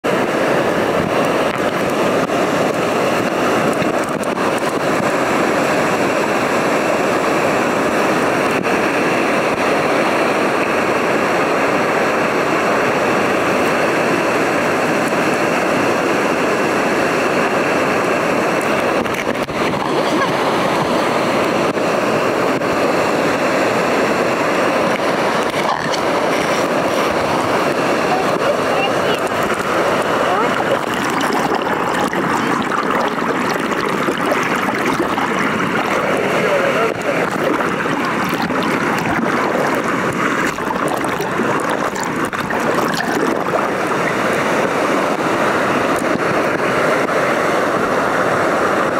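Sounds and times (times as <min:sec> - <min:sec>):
waterfall and rapids rushing: 0:00.0 - 0:48.9.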